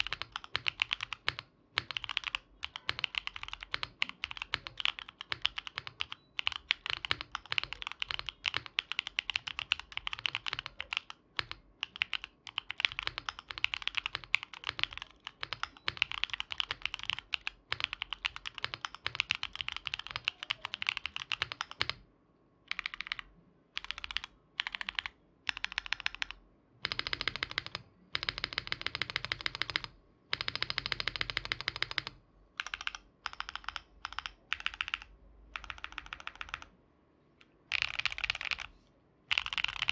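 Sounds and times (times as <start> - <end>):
mechanical keyboard typing: 0.0 - 22.0, 22.7 - 36.7, 37.7 - 38.7, 39.3 - 39.9.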